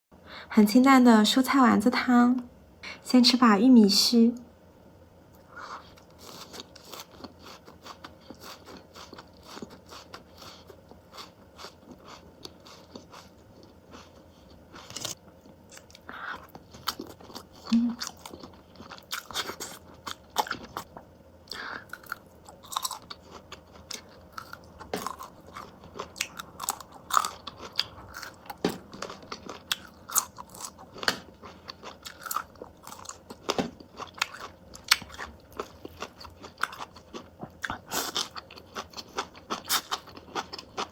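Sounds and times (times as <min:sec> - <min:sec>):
person chewing crunchy corn: 0:05.4 - 0:40.9.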